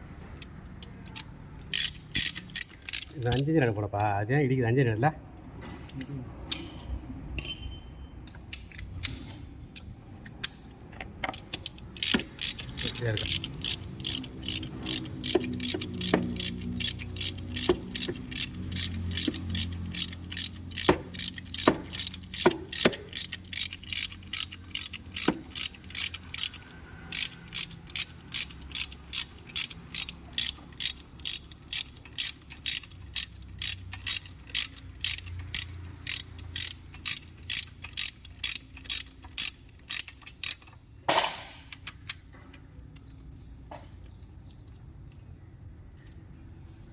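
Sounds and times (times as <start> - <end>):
ratchet wrench clicking: 0.4 - 4.2, 8.2 - 43.1.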